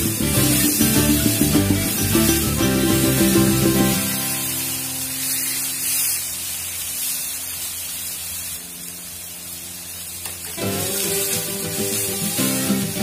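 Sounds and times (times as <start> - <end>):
background guitar music: 0.0 - 13.0
chicken sizzling on a griddle: 0.0 - 13.0.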